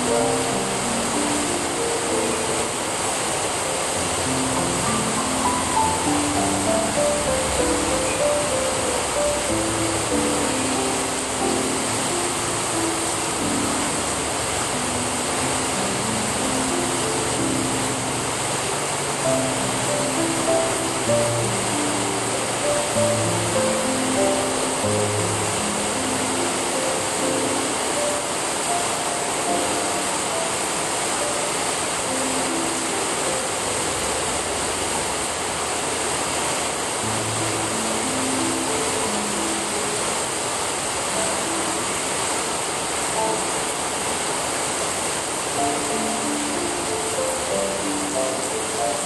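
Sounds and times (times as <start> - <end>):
faint music notes: 0.0 - 35.5, 36.4 - 49.0
steady rain hiss: 0.0 - 49.0.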